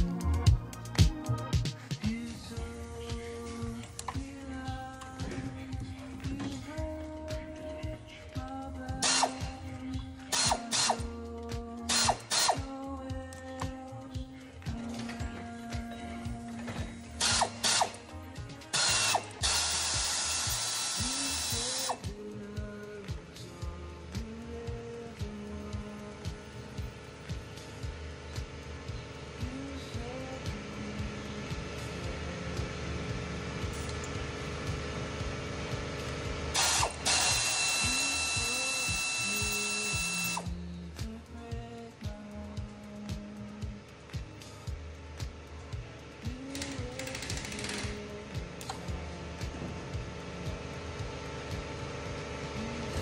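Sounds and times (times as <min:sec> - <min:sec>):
background music: 0:00.0 - 0:53.0
power tool whining: 0:02.1 - 0:13.9, 0:14.6 - 0:22.8, 0:24.2 - 0:40.8, 0:45.7 - 0:53.0.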